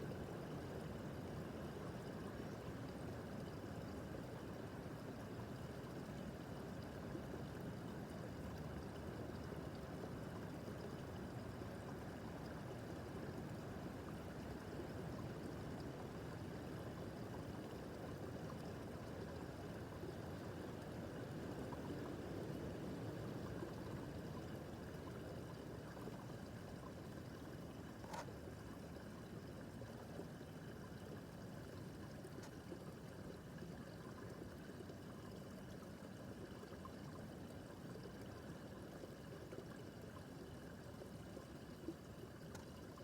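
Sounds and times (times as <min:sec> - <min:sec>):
brook babbling over stones: 0:00.0 - 0:43.0.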